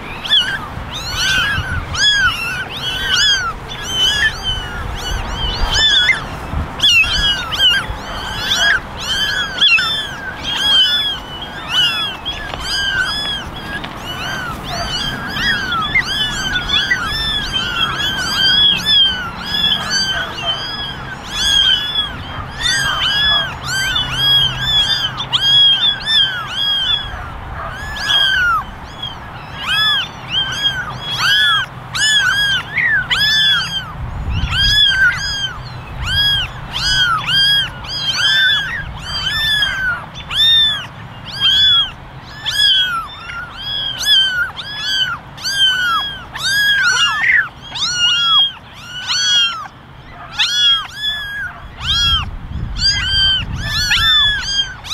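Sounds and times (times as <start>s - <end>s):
kittens meowing: 0.0s - 54.9s.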